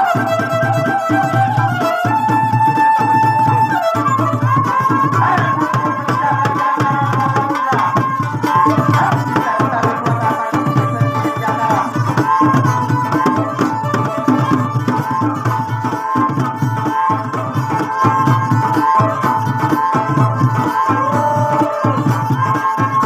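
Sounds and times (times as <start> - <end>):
hand drum beat: 0.0 - 23.0
wavering fiddle melody: 0.0 - 23.0.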